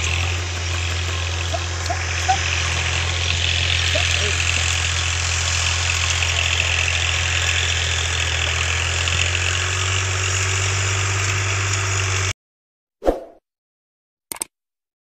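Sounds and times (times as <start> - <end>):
engine droning with hiss: 0.0 - 12.3.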